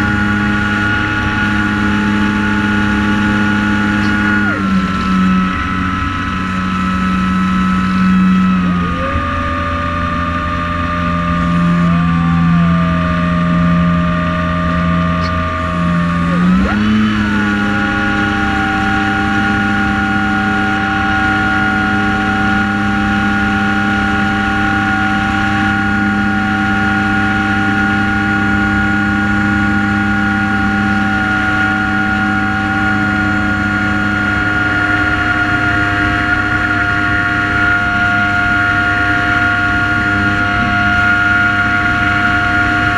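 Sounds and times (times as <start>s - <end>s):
drone propellers whining: 0.0s - 42.9s.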